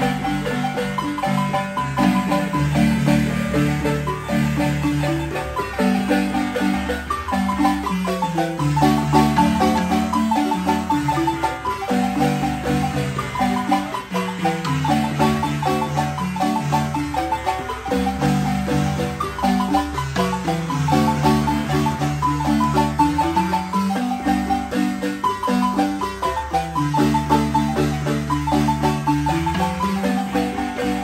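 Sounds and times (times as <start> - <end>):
wooden marimba: 0.0 - 31.0.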